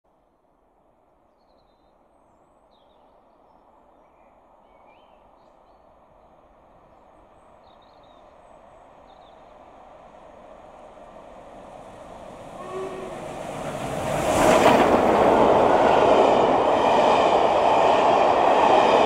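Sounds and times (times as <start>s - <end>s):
train on the rails: 0.1s - 19.0s.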